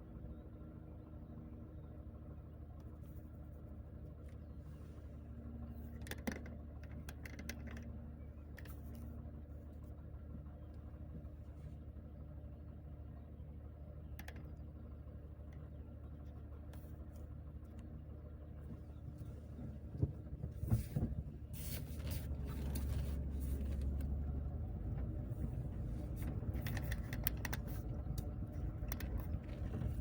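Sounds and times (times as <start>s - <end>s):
engine and road rumble: 0.0s - 30.0s.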